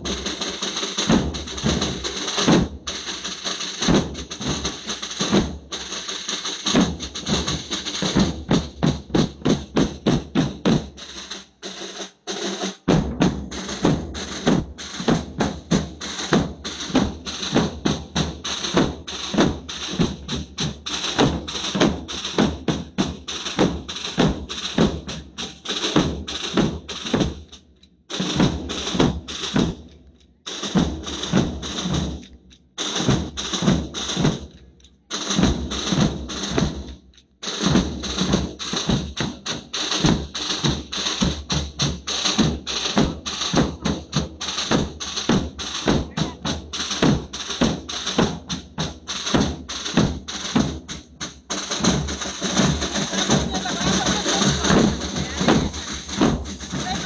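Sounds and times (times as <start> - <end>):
bass drums beaten fast: 0.0 - 11.6, 12.8 - 29.9, 30.6 - 32.3, 32.9 - 34.6, 35.2 - 36.9, 37.6 - 57.0.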